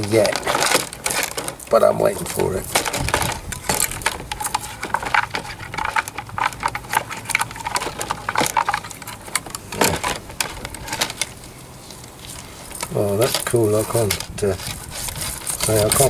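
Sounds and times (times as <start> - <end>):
faint steady hum: 0.0 - 16.0
small metal parts clicking: 0.0 - 16.0.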